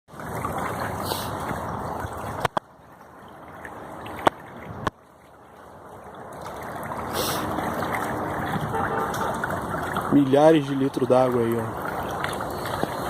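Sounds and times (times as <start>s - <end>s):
water gushing from leaking main: 0.1s - 13.0s.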